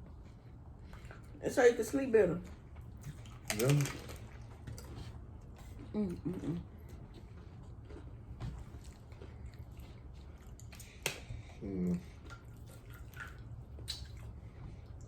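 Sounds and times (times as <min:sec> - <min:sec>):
wet chewing and lip smacks: 0:02.4 - 0:15.0.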